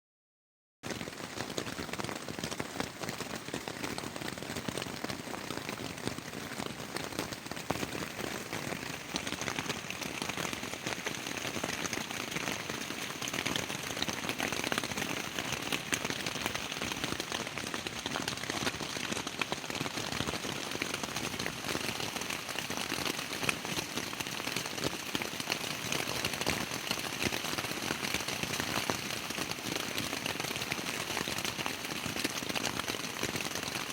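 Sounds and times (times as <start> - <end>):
rain pattering on tent fabric: 0.8 - 33.9.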